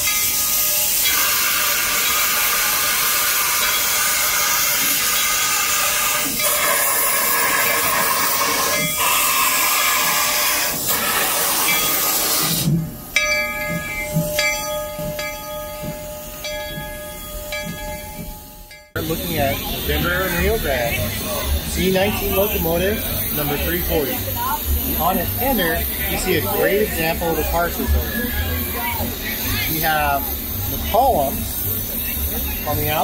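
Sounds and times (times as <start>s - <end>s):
steam locomotive venting steam: 0.0s - 33.0s.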